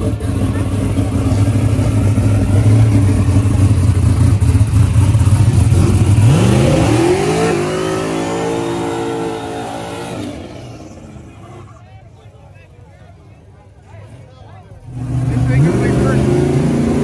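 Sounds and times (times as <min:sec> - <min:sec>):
car engine revving: 0:00.0 - 0:11.7, 0:14.1 - 0:17.0.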